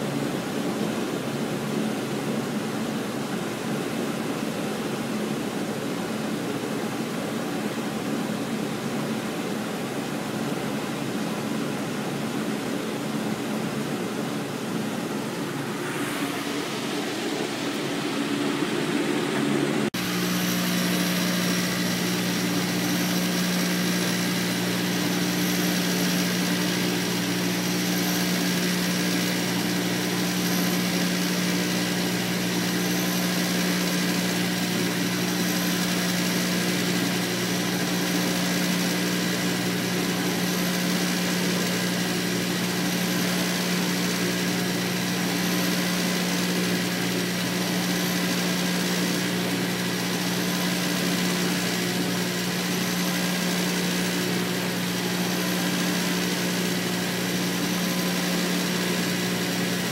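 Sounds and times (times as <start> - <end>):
compressor humming: 0.0 - 59.9
fan air rushing: 0.0 - 59.9.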